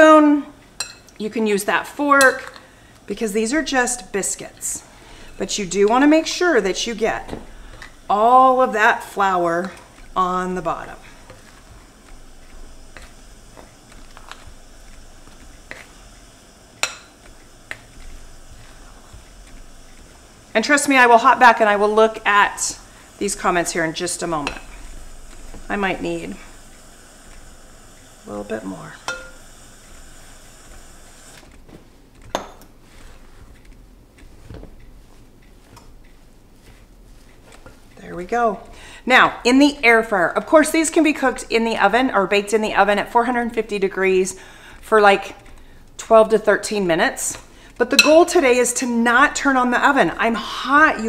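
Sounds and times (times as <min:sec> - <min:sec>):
utensil stirring dough in bowl: 0:03.0 - 0:51.0.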